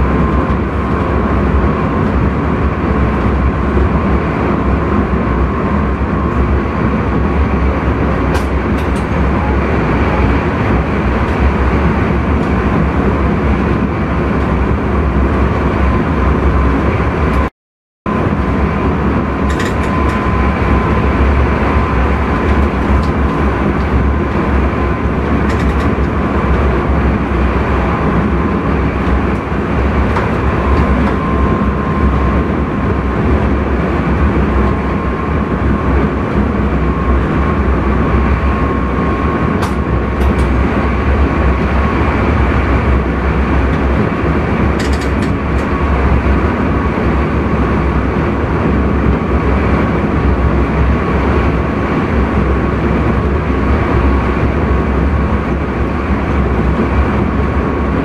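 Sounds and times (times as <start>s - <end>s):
high steady whine: 0.0s - 17.5s, 18.1s - 58.0s
train wheels rumbling: 0.0s - 17.5s, 18.1s - 58.0s.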